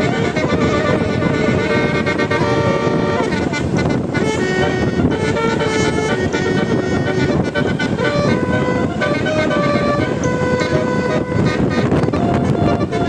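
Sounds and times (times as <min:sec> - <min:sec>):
tuned bus air horns playing: 0:00.0 - 0:13.0.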